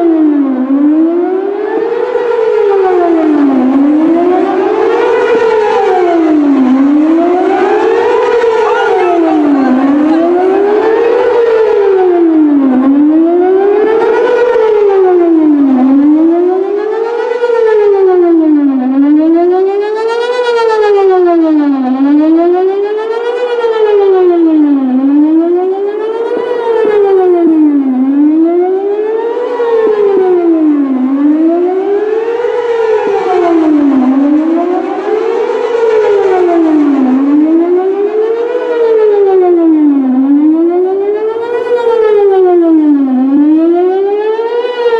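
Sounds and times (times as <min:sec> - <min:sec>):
warning siren wailing: 0:00.0 - 0:44.9.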